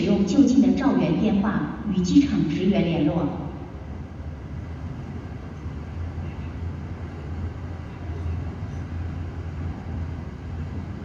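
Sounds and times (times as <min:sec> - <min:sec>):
muffled airport apron rumble: 0:00.0 - 0:11.0.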